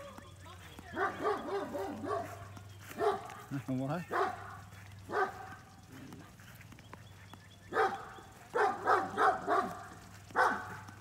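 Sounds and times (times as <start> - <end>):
dogs barking: 0.0 - 6.5, 7.1 - 11.0.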